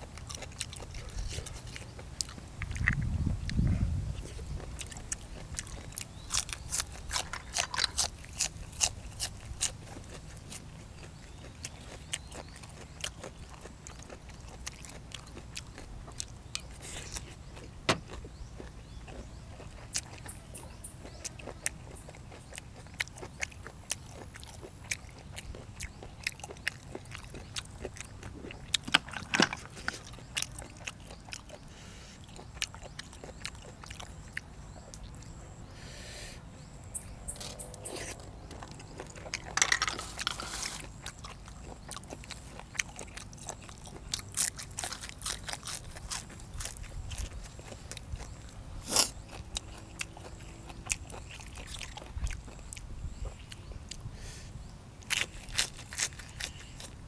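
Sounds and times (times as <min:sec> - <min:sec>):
person chewing crunchy food: 0:00.0 - 0:36.1, 0:36.9 - 0:57.0.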